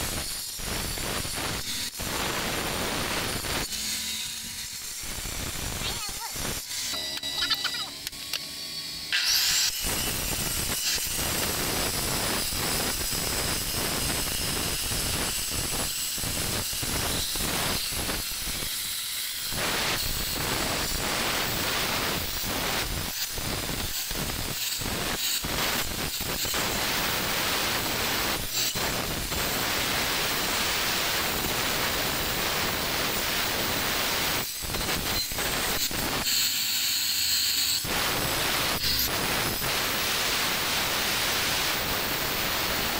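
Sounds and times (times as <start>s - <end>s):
angle grinder grinding stone: 0.0s - 42.9s.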